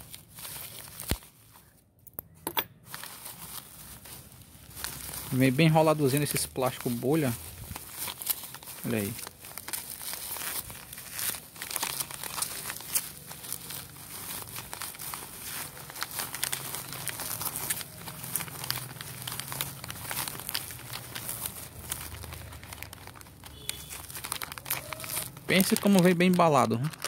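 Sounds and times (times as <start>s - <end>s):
bubble wrap crinkling: 0.0s - 1.9s, 2.7s - 27.0s.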